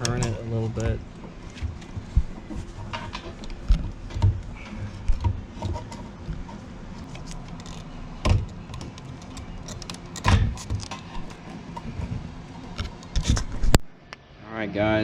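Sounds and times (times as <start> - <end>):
metal part knocking and scraping: 0.0 - 13.7.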